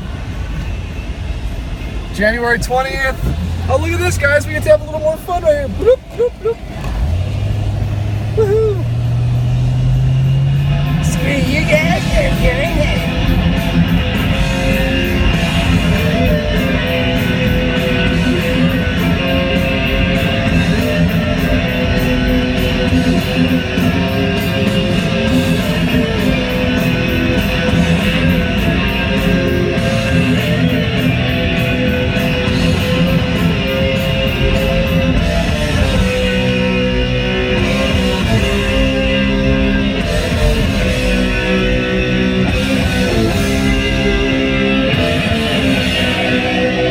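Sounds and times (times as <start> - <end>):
guitar music: 3.2 - 46.9.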